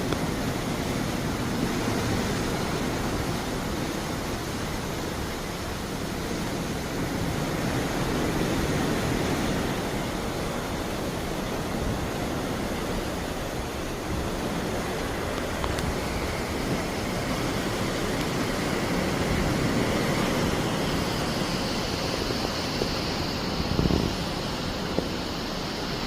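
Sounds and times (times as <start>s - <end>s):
water rushing along ship hull: 0.0s - 26.0s.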